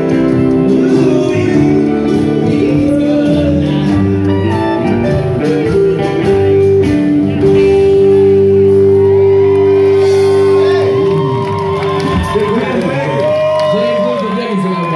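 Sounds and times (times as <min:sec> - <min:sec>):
live rock band playing: 0:00.0 - 0:14.9.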